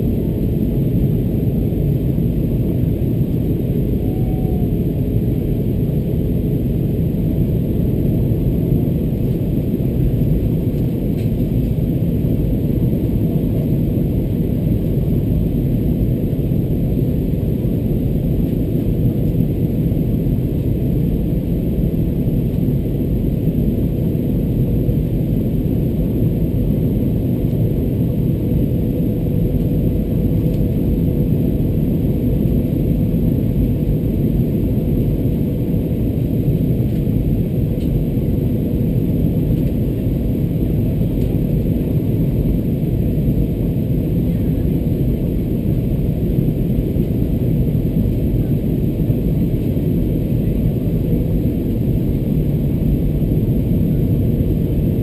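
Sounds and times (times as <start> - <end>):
aircraft cabin engine rumble: 0.0 - 55.0
faint steady hum: 0.0 - 55.0.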